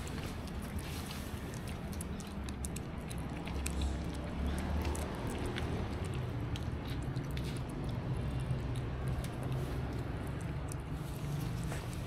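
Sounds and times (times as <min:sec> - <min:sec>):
cats chewing meat: 0:00.0 - 0:12.0.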